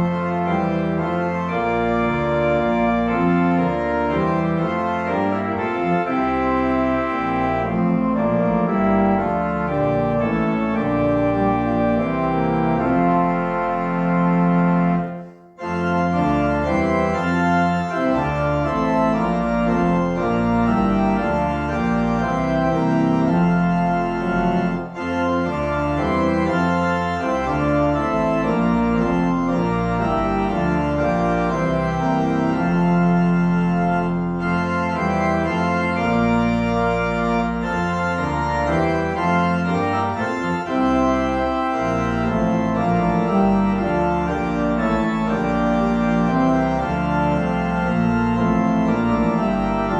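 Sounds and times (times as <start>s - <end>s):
organ playing chords: 0.0s - 49.9s.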